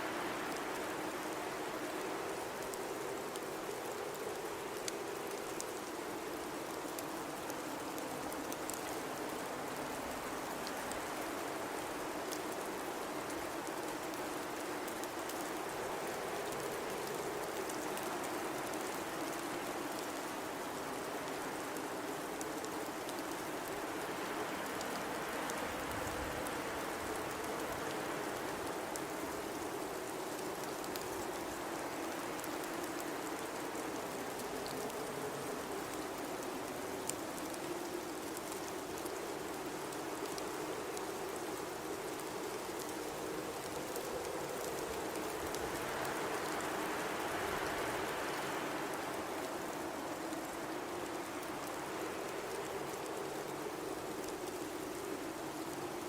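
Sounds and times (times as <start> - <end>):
blizzard wind howling: 0.0 - 56.0
faint ticks: 2.3 - 56.0.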